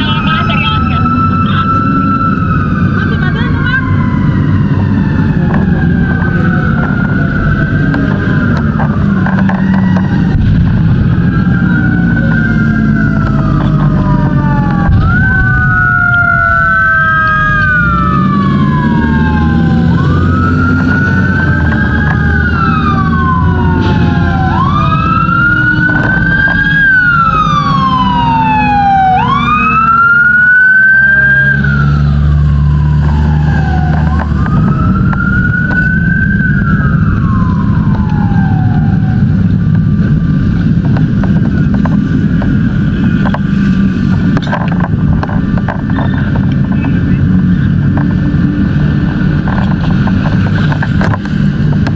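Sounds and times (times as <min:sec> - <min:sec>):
fire engine siren wailing: 0:00.0 - 0:51.9
heavy engine running: 0:00.0 - 0:51.9.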